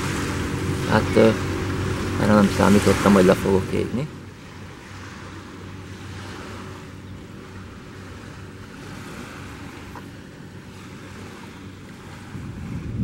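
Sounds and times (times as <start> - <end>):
low steady hum: 0.0 - 13.0
wind on microphone: 0.0 - 13.0.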